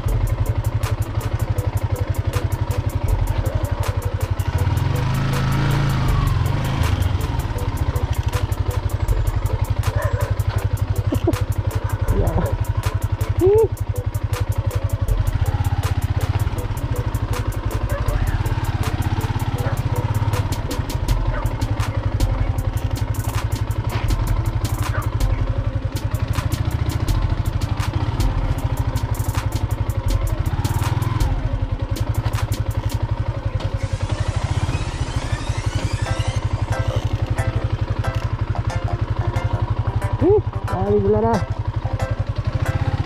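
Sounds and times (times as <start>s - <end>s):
motorcycle engine low rumble: 0.0s - 43.0s.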